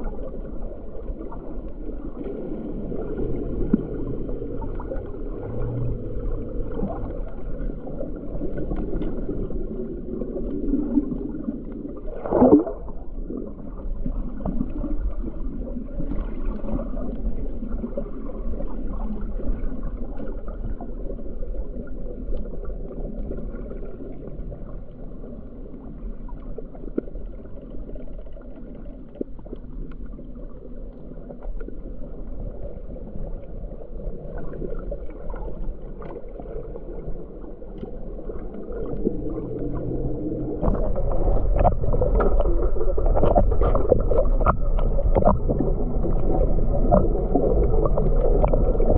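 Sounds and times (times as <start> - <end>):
muffled underwater water noise: 0.0 - 48.9.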